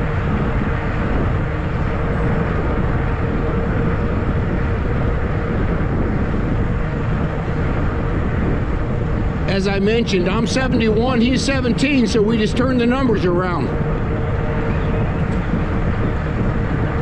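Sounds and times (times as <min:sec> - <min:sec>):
faint steady hum: 0:00.0 - 0:17.0
wind rushing over microphone: 0:00.0 - 0:17.0.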